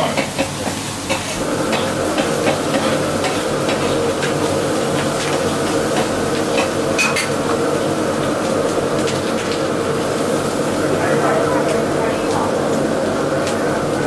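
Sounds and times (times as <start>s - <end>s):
flatbreads sizzling in iron pan: 0.0s - 14.0s.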